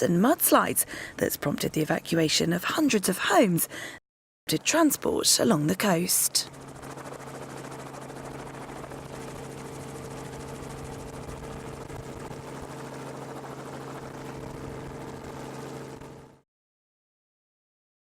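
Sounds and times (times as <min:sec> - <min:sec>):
helicopter engine and rotor: 0:00.0 - 0:16.4.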